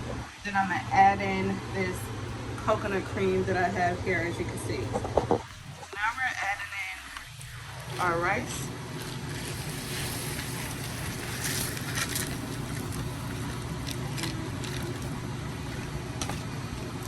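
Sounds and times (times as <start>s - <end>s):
rushing kitchen noise with hum: 0.0s - 17.0s.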